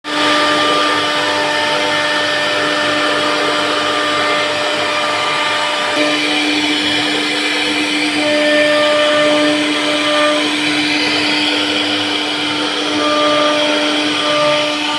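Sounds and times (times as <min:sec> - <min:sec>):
cnc router spindle cutting wood: 0:00.0 - 0:14.9.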